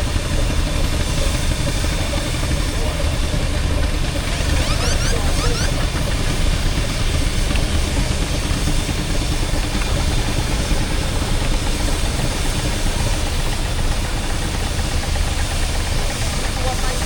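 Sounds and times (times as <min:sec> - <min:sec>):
steam engines rumbling: 0:00.0 - 0:17.0.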